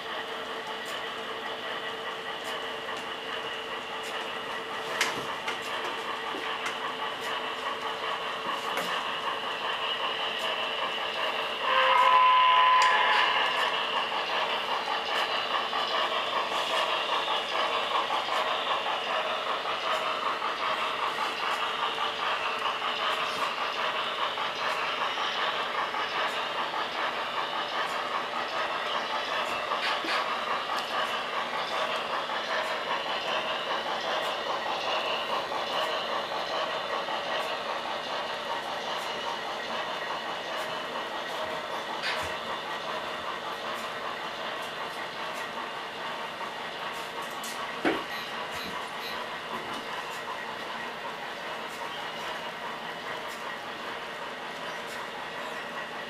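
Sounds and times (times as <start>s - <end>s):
model train wheels clattering: 0.0s - 56.0s.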